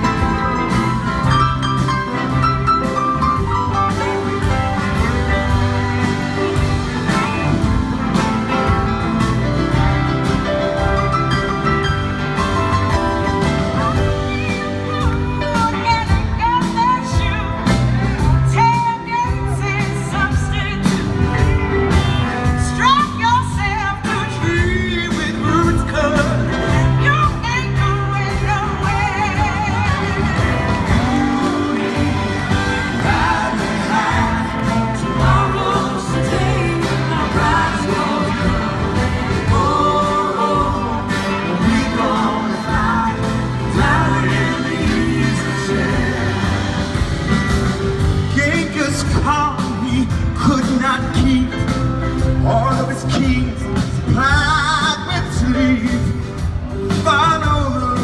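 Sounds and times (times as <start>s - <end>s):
gliding lead guitar line: 0.0s - 58.0s
live rock band playing: 0.0s - 58.0s.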